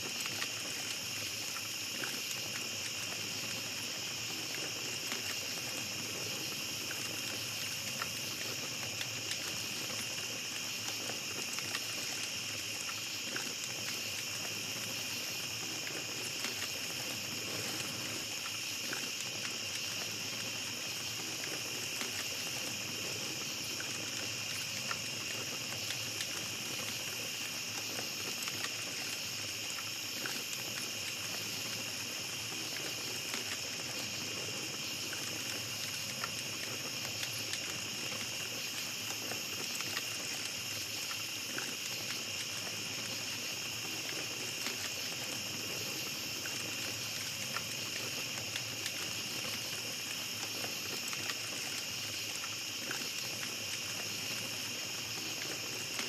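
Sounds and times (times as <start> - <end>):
campfire crackling: 0.0 - 56.0
night insects chorus: 0.0 - 56.0.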